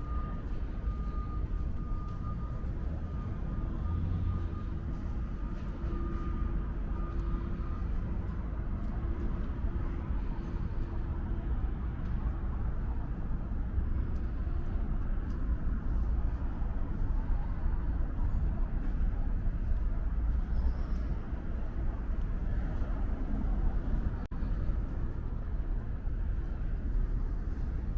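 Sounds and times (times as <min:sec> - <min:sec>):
low city background rumble: 0:00.0 - 0:27.9.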